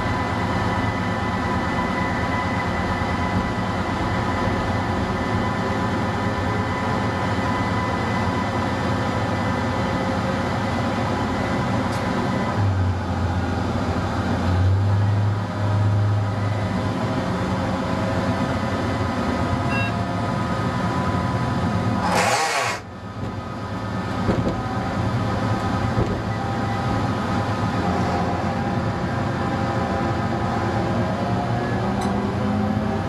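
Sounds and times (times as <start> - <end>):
diesel engine drone: 0.0 - 33.0
wheel and rail noise: 0.0 - 33.0.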